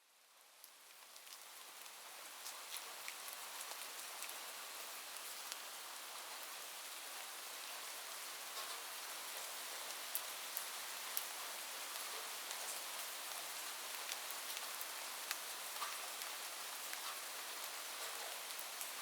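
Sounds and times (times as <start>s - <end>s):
light rain falling: 0.0s - 19.0s
raindrops ticking on a surface: 0.2s - 19.0s.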